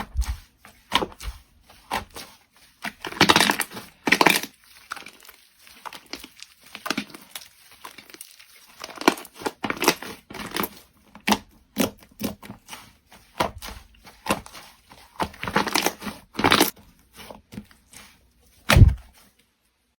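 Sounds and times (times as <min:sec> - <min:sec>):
slime squelching and popping: 0:00.0 - 0:16.8, 0:18.5 - 0:19.1.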